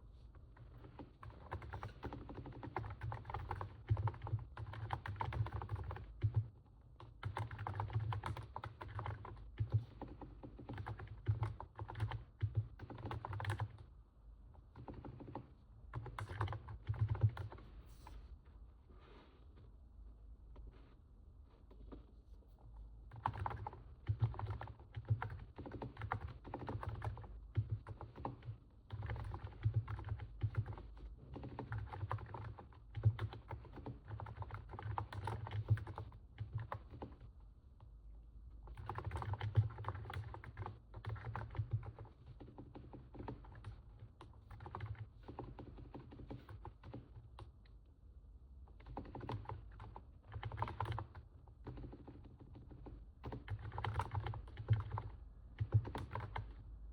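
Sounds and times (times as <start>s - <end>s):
keyboard typing: 0.6s - 13.9s, 14.6s - 18.1s, 23.1s - 37.3s, 38.6s - 47.7s, 48.7s - 56.6s.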